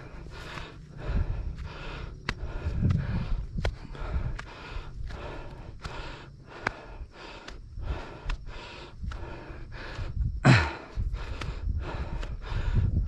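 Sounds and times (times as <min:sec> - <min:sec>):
person panting: 0:00.0 - 0:13.0.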